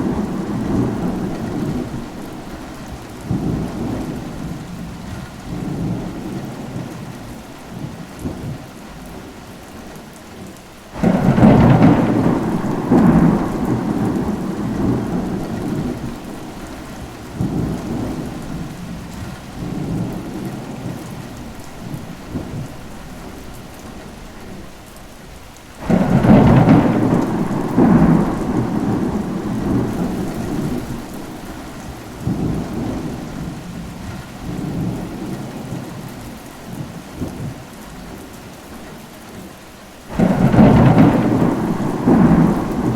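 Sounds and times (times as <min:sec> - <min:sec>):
thunder rumbling: 0:00.0 - 0:08.6, 0:11.0 - 0:24.6, 0:25.8 - 0:38.2, 0:40.0 - 0:42.9
steady rain: 0:00.0 - 0:42.9.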